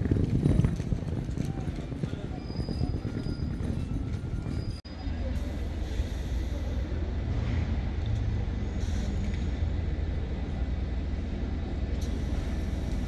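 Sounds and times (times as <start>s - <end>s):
tram low rumble: 0.0s - 13.0s.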